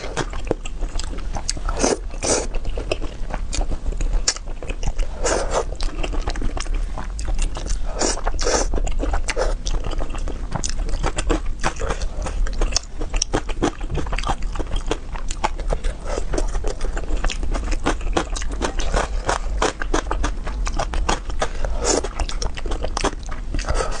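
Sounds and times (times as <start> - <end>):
crisp crunching chewing: 0.0 - 24.0
steady low hum: 0.0 - 24.0.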